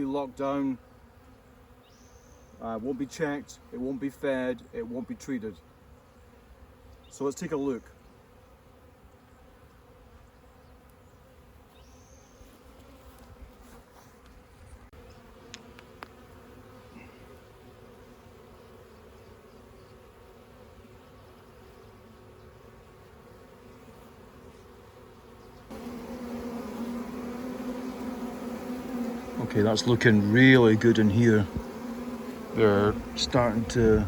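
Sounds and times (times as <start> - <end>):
bee colony humming: 0.0 - 34.0.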